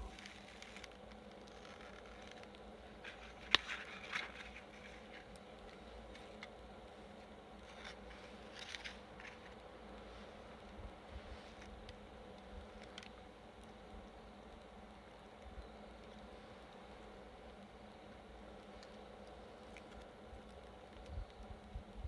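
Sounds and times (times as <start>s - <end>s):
fish grilling crackles: 0.0s - 22.0s
low steady hum: 0.0s - 22.0s.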